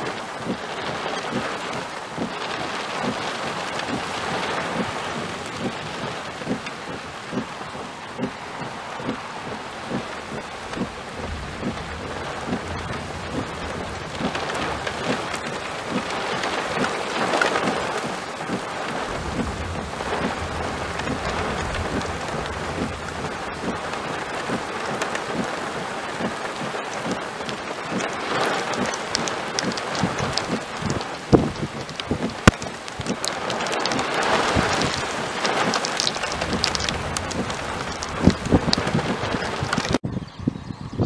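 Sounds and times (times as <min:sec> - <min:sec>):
rain drops ticking: 0:00.0 - 0:40.0
thunder rumbling: 0:00.0 - 0:40.1.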